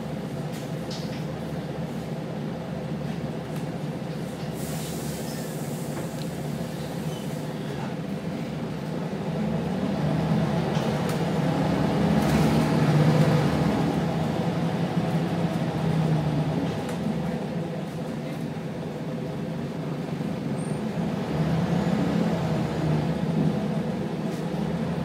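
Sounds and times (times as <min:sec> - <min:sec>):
bus engine heard from inside: 0:00.0 - 0:25.0.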